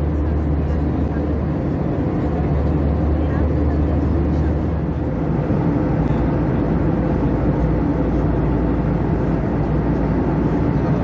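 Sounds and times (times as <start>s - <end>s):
airplane engine hum: 0.0s - 11.0s
rushing airflow in cabin: 0.0s - 11.0s.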